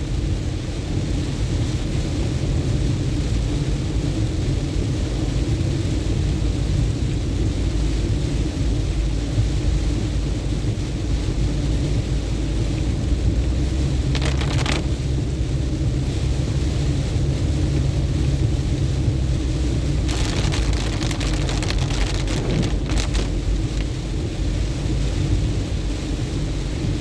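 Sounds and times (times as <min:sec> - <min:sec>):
low road rumble: 0:00.0 - 0:27.0.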